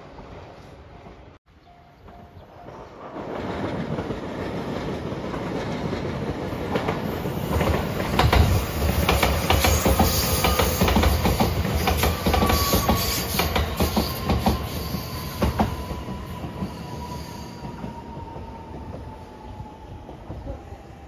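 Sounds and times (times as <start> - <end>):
train passing with heavy rumble: 0.0 - 21.0.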